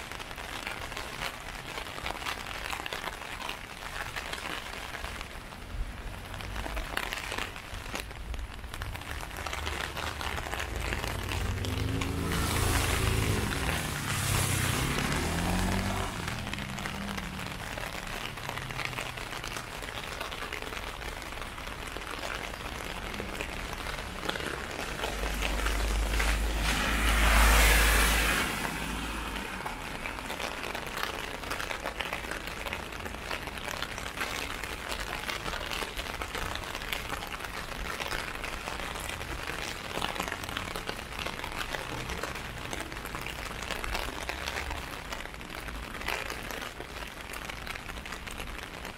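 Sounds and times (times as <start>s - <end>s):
rain pattering on umbrella: 0.0s - 48.9s
vehicle driving past on wet street: 5.5s - 7.6s, 8.7s - 48.9s.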